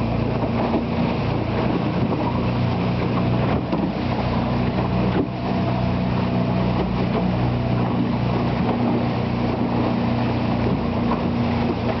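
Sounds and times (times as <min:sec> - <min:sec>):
boat engine droning: 0:00.0 - 0:12.0
rushing water noise: 0:00.0 - 0:12.0.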